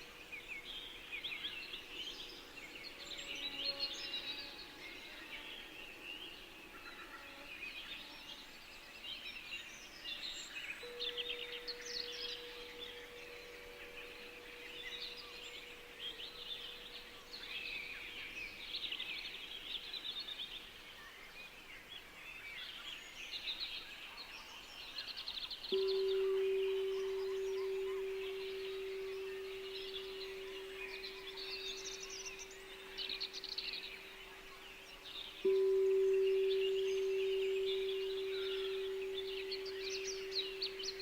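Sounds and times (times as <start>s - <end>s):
faint steady tone: 0.0s - 41.0s
songbirds chirping and trilling: 0.0s - 41.0s.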